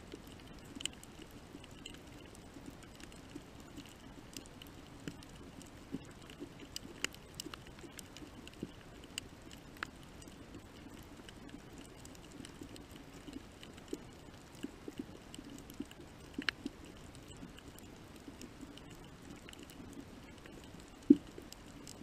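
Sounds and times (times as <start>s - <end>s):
faint low rumble: 0.0s - 22.0s
sharp underwater clicks and pops: 0.0s - 22.0s.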